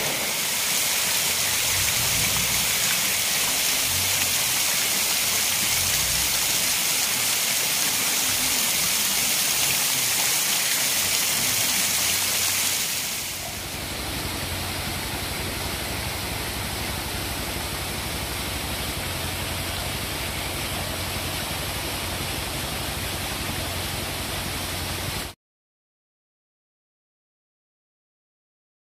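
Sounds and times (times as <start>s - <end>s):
small waterfall splashing: 0.0s - 25.4s.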